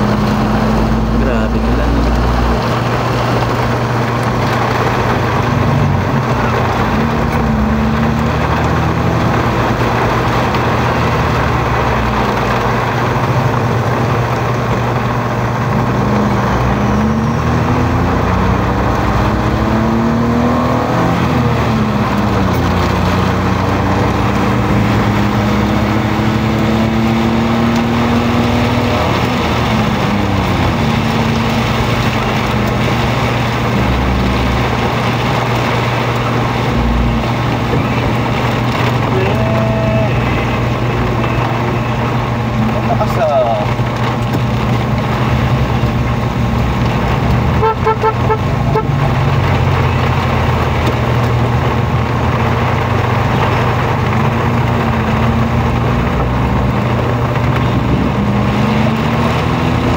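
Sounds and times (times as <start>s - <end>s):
car engine hum: 0.0s - 59.9s
heavy rain on car roof: 0.0s - 59.9s.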